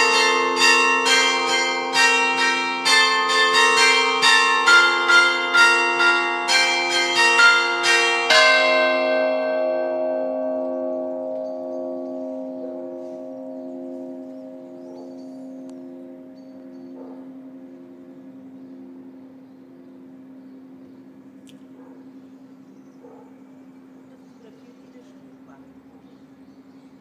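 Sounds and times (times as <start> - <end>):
church bells ringing: 0.0 - 26.4.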